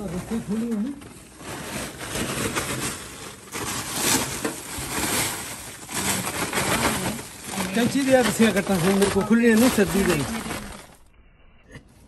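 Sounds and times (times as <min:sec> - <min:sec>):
plastic tarps rustling and crunching: 0:00.0 - 0:11.1.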